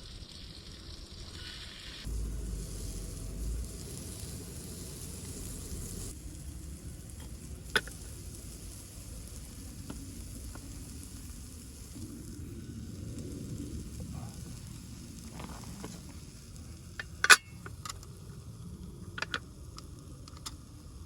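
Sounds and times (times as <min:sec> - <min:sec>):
food sizzling in a pan: 0:00.0 - 0:17.4.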